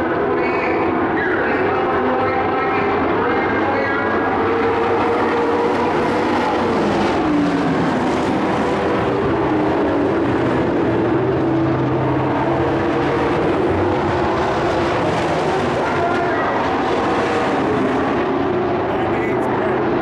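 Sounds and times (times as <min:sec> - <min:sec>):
race truck engines passing: 0:00.0 - 0:20.0.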